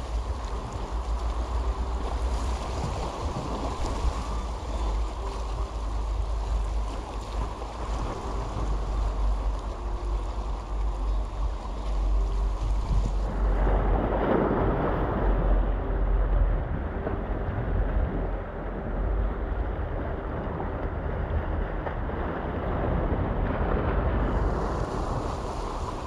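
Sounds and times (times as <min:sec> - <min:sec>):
sea waves against rocks: 0:00.0 - 0:26.0
wind buffeting microphone: 0:00.0 - 0:26.0.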